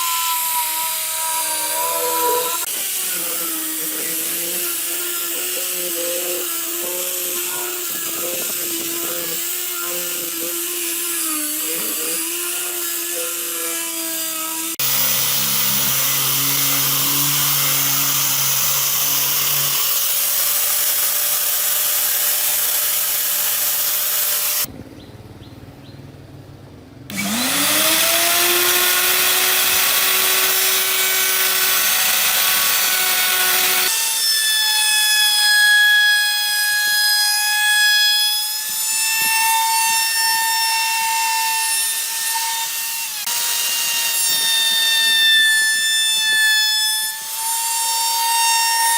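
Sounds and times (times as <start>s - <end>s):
power tool motor whine: 0.0s - 24.7s, 27.1s - 35.2s, 41.9s - 48.7s.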